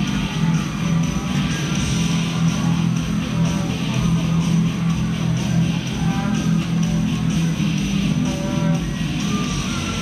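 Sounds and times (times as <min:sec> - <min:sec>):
guitar music over sound system: 0:00.0 - 0:10.0.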